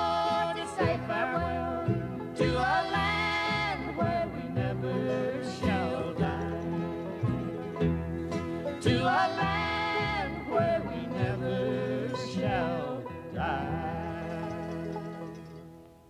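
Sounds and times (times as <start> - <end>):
voices singing in harmony: 0.0 - 15.6
string accompaniment: 0.0 - 16.0.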